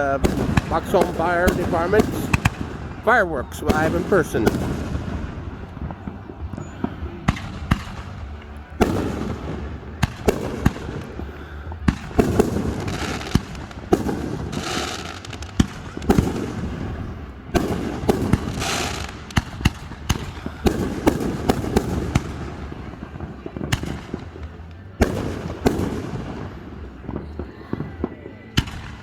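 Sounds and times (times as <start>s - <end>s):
firework shells booming: 0.0s - 29.0s
fireworks crackling: 0.0s - 29.0s.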